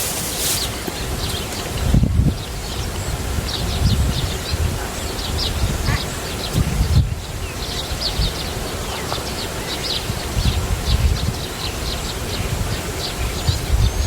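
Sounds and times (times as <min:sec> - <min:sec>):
small birds chirping: 0:00.0 - 0:14.0
wind rumble on microphone: 0:00.0 - 0:14.0.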